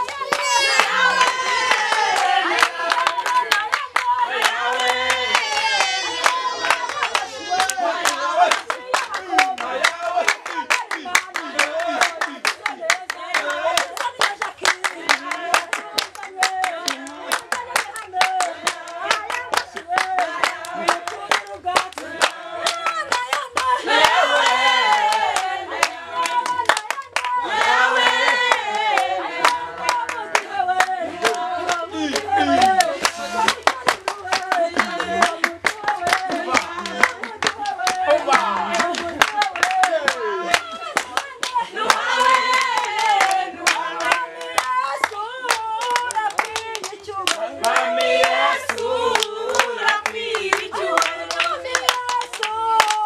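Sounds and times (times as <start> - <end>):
group singing: 0.0 - 53.0
rhythmic hand clapping: 0.0 - 53.0.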